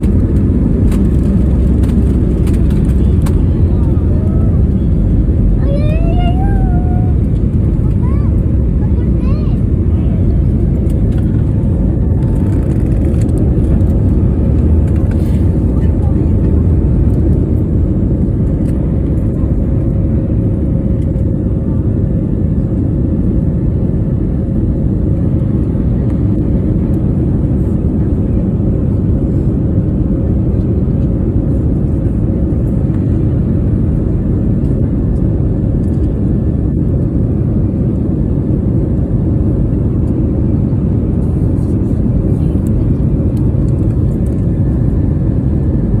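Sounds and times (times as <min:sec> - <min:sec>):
airliner engines rumbling: 0:00.0 - 0:46.0.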